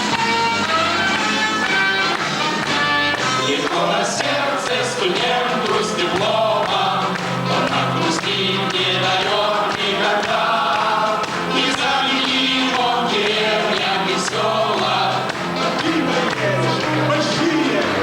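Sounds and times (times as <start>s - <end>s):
backing music: 0.0s - 18.0s
group singing in chorus: 3.4s - 18.0s.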